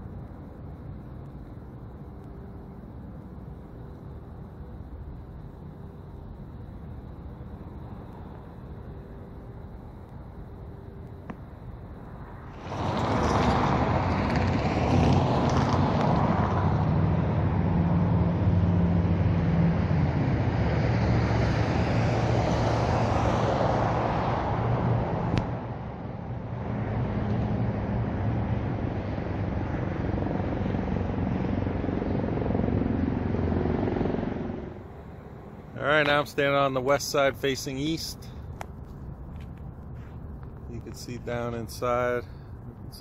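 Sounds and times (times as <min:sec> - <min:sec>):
vehicles passing: 0:00.0 - 0:43.0.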